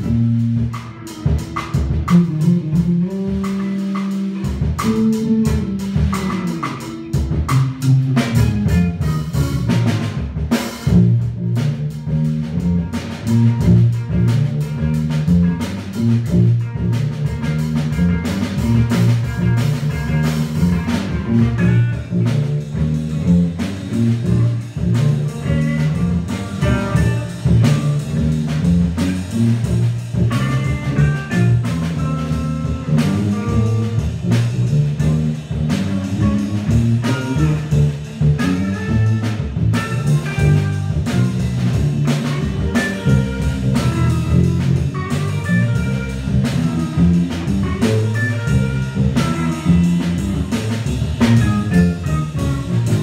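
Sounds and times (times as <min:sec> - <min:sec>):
drum kit strokes: 0:00.0 - 0:53.0
electric bass line: 0:00.0 - 0:53.0
electric guitar notes: 0:00.0 - 0:53.0.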